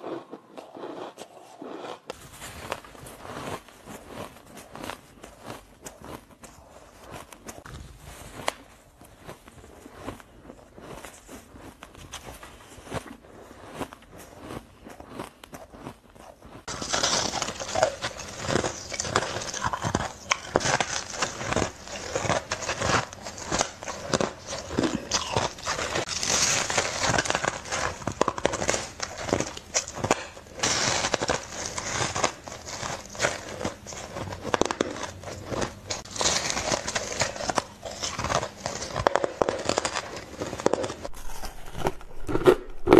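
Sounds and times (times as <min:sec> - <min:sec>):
chewing crunchy ice: 0:00.0 - 0:07.6, 0:08.6 - 0:42.9.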